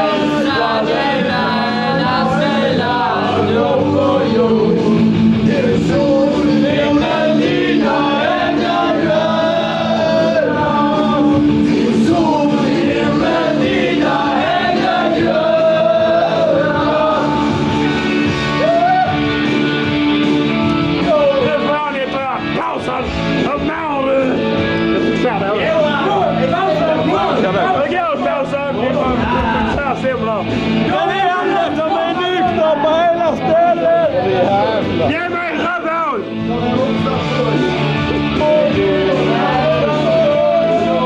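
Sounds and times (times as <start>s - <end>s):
rock song with singing: 0.0s - 41.0s.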